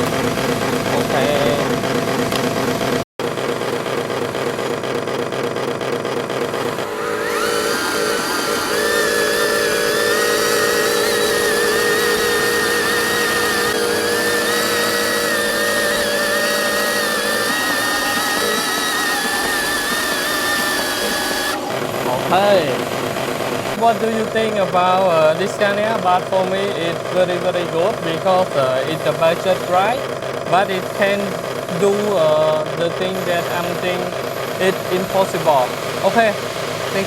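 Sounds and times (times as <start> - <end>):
toy truck electric motor whining: 0.0 - 37.0.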